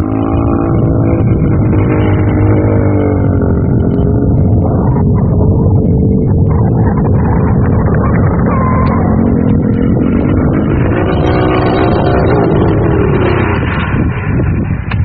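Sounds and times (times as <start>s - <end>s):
buggy engine revving: 0.0s - 15.0s.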